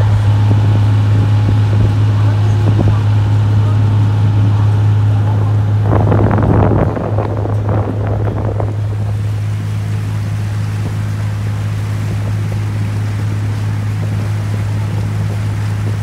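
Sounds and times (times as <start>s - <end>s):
boat engine droning: 0.0s - 16.0s
water churning: 0.0s - 16.0s.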